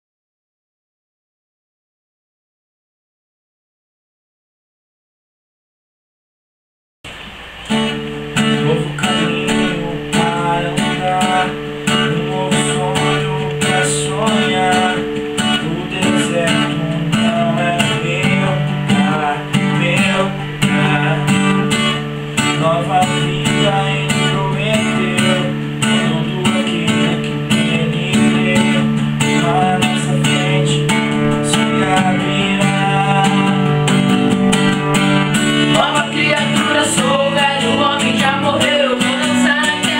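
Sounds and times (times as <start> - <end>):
acoustic guitar: 7.1 - 39.9.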